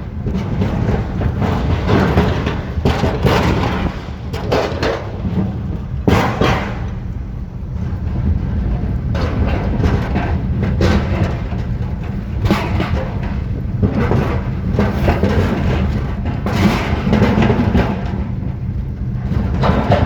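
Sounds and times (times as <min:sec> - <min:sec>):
vehicle low rumble: 0:00.0 - 0:20.0.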